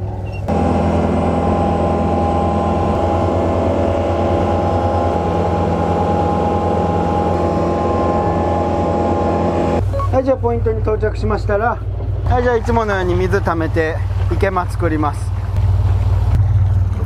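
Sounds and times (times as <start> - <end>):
boat engine drone: 0.0 - 17.0
engine high whine: 0.0 - 17.0.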